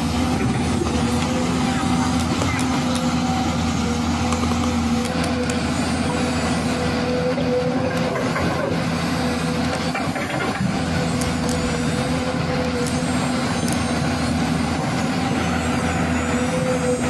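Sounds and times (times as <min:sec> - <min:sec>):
toy excavator motor drone: 0:00.0 - 0:17.0.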